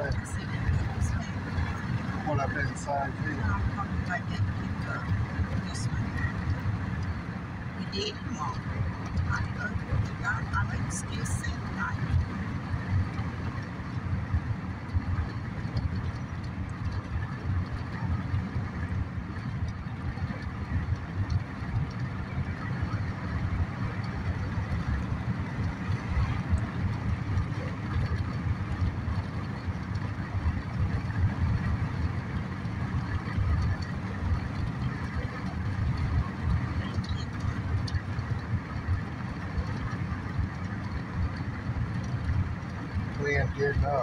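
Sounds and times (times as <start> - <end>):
car cabin road noise: 0.0 - 44.0.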